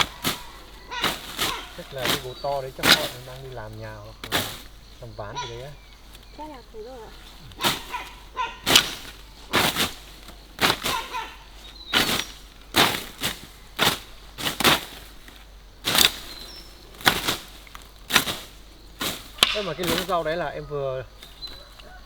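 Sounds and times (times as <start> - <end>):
blade swishing through grass: 0.0 - 20.5.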